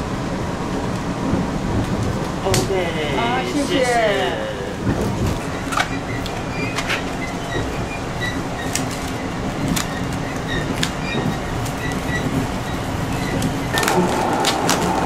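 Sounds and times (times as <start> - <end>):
train rolling rumble: 0.0 - 15.0.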